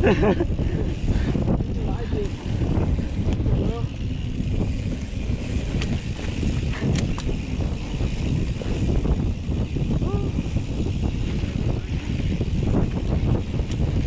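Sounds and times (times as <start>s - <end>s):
bike tyres rumbling on dirt: 0.0s - 14.0s.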